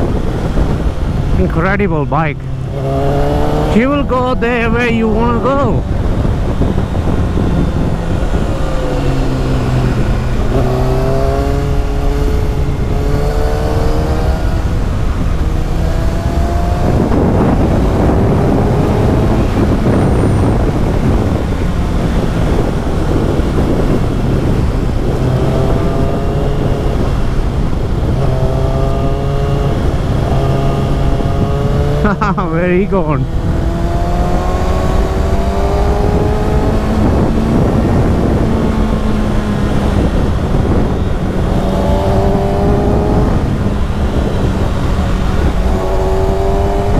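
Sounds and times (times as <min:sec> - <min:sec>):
motorcycle engine revving: 0:00.0 - 0:46.9
wind rush on microphone: 0:00.0 - 0:46.9.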